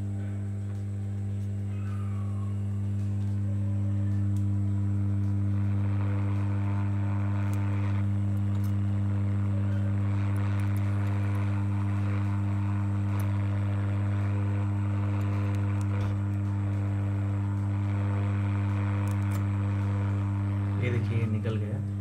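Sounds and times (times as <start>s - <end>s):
strong steady hum: 0.0s - 22.0s.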